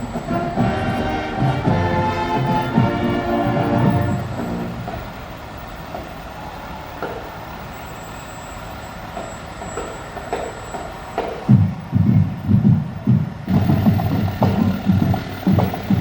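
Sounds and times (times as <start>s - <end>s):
fire truck engine humming: 0.0s - 16.0s.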